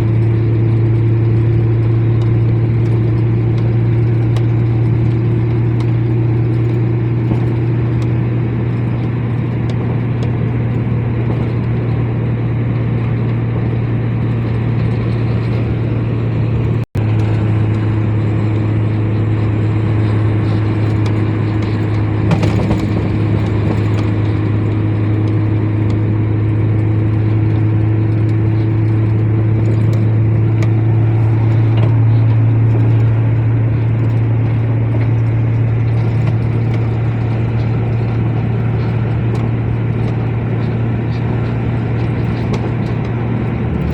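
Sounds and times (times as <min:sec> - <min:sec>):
road noise: 0:00.0 - 0:43.9
truck engine droning: 0:00.0 - 0:43.9.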